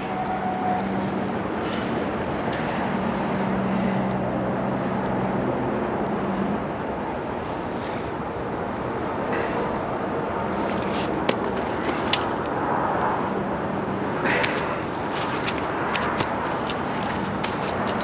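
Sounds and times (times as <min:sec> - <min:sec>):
heavy rushing noise: 0:00.0 - 0:18.0.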